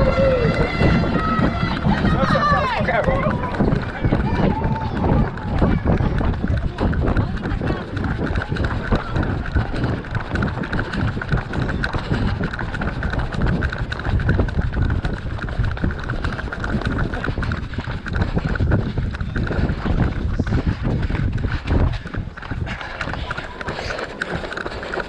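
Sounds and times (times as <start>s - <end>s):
footsteps of crowd of runners: 0.0s - 25.0s.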